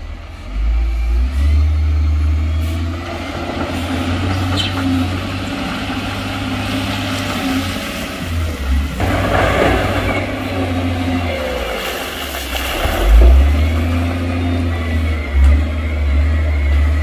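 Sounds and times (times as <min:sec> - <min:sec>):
heavy diesel engines running: 0:00.0 - 0:17.0.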